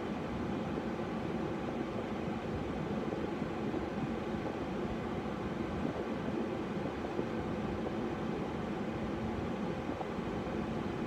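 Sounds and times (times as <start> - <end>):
car ventilation fan running: 0.0 - 11.0.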